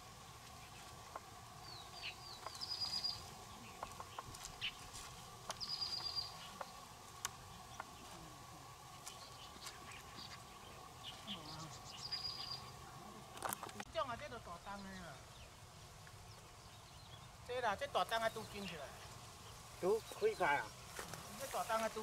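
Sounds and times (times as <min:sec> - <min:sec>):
faint steady hum: 0:00.0 - 0:22.0
small birds chirping: 0:00.0 - 0:22.0.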